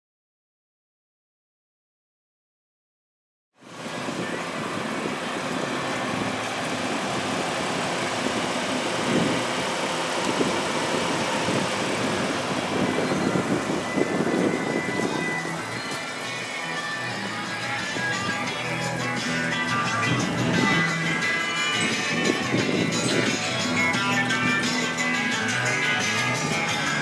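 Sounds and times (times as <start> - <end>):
vehicle traffic: 3.6 - 27.0.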